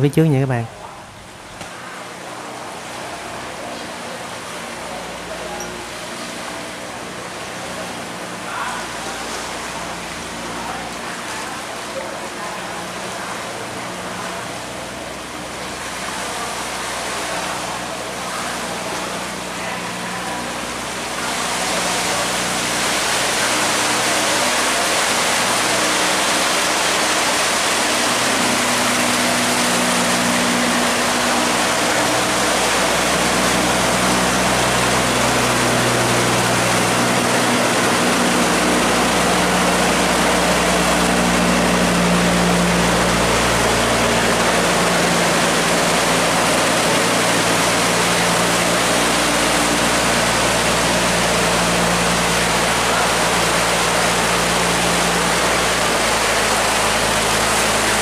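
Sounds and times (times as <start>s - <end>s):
boat engine running: 0.0s - 58.0s
water rushing through sluice: 0.0s - 58.0s.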